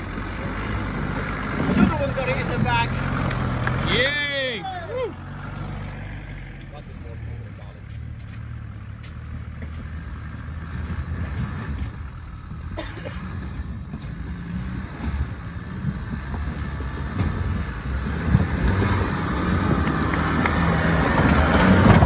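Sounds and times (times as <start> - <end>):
vehicle engine at low revs: 0.0 - 22.0.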